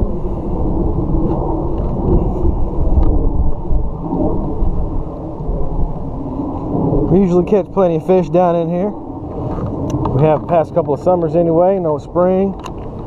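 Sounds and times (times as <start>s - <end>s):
continuous low rumbling: 0.0s - 13.0s.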